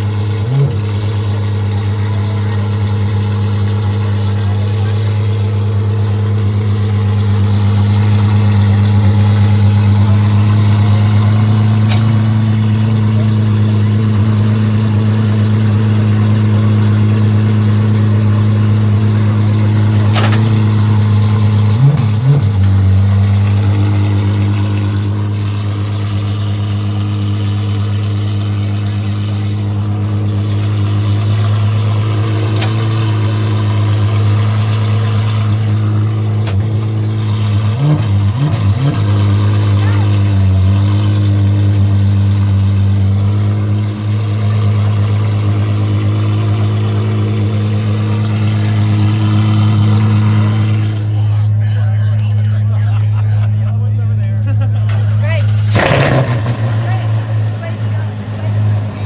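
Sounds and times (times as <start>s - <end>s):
engine throttle blip: 0.0s - 53.4s, 54.3s - 59.0s
car engine idling: 0.0s - 59.0s.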